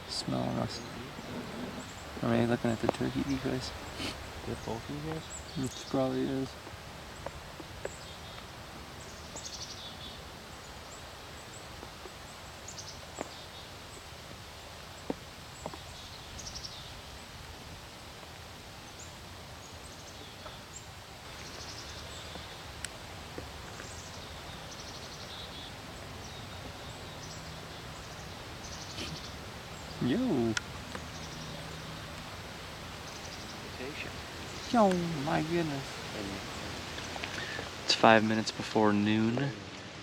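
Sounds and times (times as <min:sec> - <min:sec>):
songbirds singing: 0:00.0 - 0:39.6
steady low hiss: 0:00.0 - 0:40.0.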